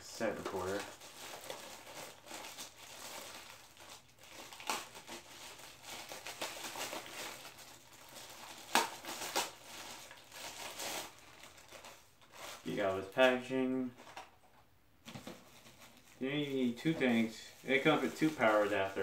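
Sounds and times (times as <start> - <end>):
plastic wrapping crinkling: 0.1 - 19.0.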